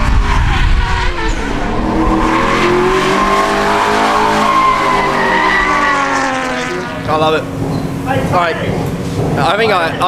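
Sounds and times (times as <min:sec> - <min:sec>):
car engine revving: 0:00.0 - 0:09.7.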